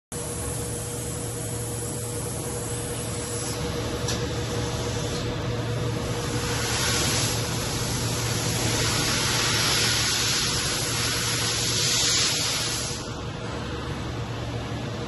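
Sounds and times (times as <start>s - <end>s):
machinery hum and hiss: 0.1s - 15.0s.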